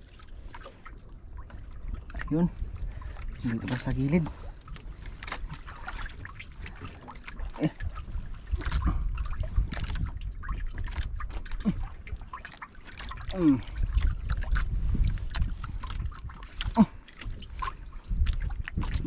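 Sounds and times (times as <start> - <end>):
water lapping around boat: 0.0 - 19.0
clicks and knocks handling fish: 0.1 - 19.0.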